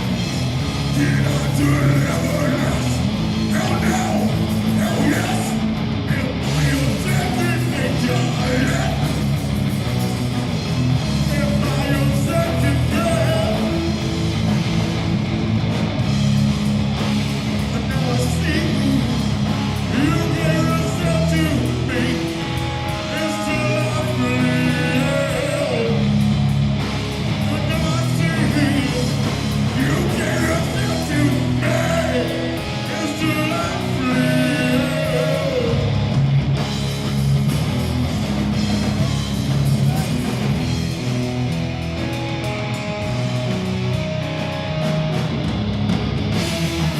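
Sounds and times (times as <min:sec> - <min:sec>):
heavy rock band playing: 0:00.0 - 0:46.9.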